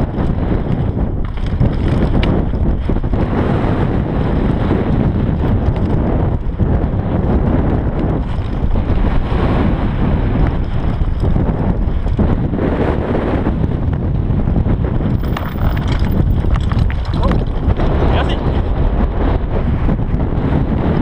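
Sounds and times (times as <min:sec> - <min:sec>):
bike knocking and rattling: 0:00.0 - 0:18.3
tyres rumbling on dirt trail: 0:00.0 - 0:21.0
wind rushing over microphone: 0:00.0 - 0:21.0.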